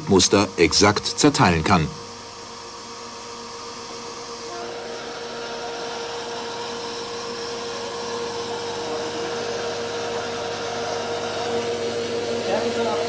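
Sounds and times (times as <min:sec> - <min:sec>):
saw whirring with whine: 0:00.0 - 0:13.0.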